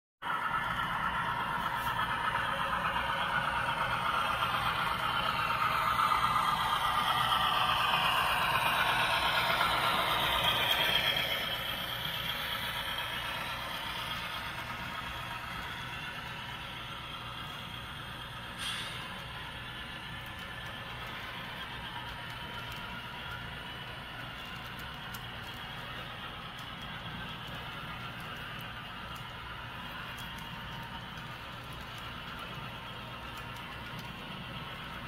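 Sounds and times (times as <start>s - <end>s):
model train whirring and rattling: 0.2s - 35.0s.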